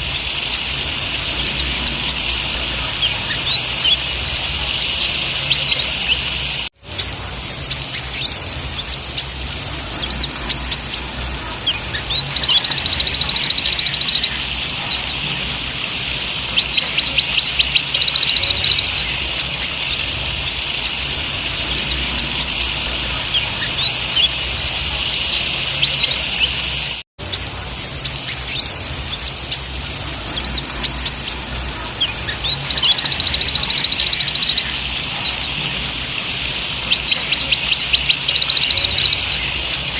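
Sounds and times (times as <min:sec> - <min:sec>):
buzzy high bird trills: 0:00.0 - 0:39.9
sunbirds chipping: 0:00.0 - 0:39.9.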